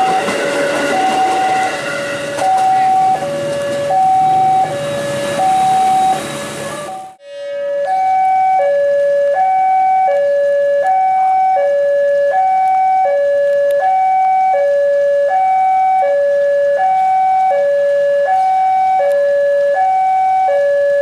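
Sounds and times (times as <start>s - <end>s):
two-tone level-crossing alarm: 0.0s - 21.0s.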